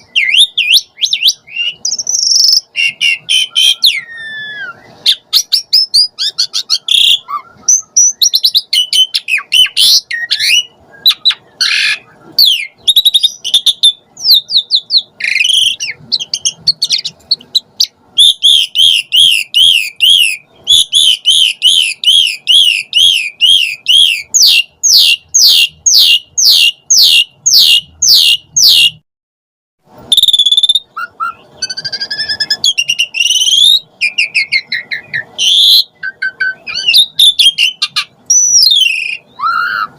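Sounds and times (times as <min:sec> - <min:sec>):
bird singing whistles and chatter: 0:00.0 - 0:29.0, 0:30.1 - 0:39.9.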